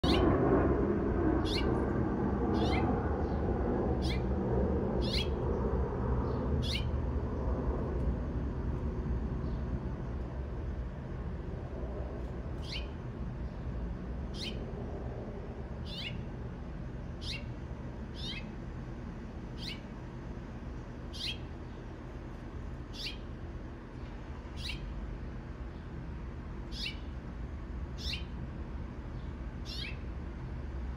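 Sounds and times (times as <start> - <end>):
low background rumble: 0.0 - 30.9.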